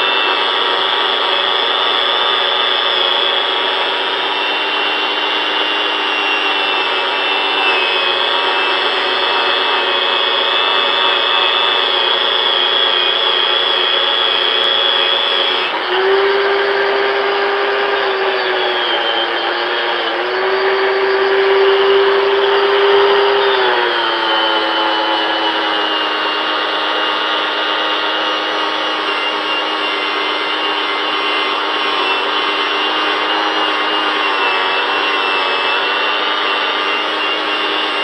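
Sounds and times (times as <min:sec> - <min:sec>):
angle grinder polishing metal: 0:00.0 - 0:38.0.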